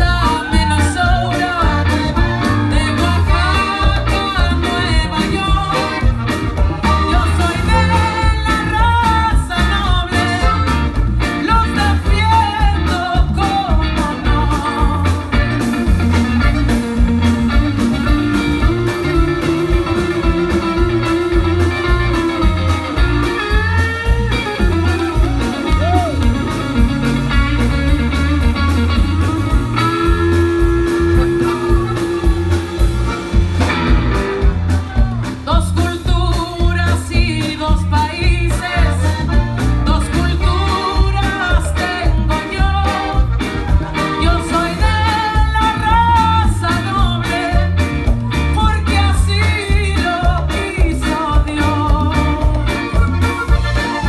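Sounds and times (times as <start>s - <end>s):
woman singing lead: 0.0s - 27.8s, 28.6s - 33.7s, 34.5s - 54.0s
live latin band playing: 0.0s - 54.0s.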